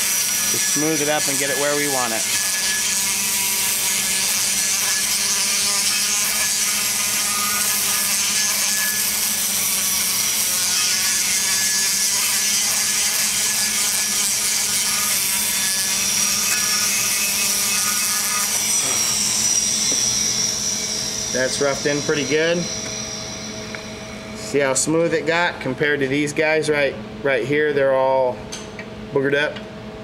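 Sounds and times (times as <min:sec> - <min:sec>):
die grinder grinding metal: 0:00.0 - 0:24.7.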